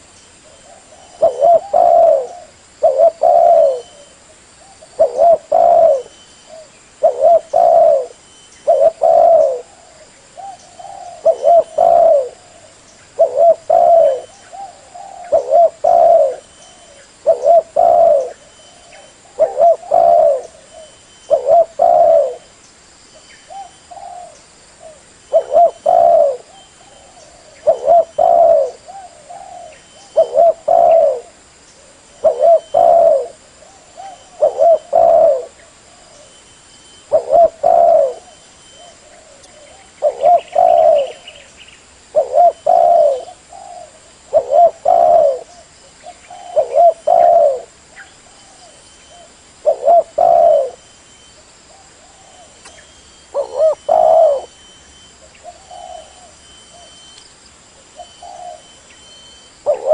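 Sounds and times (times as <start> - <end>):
dove cooing: 0.0 - 22.5, 23.5 - 41.5, 42.1 - 50.9, 51.7 - 57.2, 57.8 - 59.9.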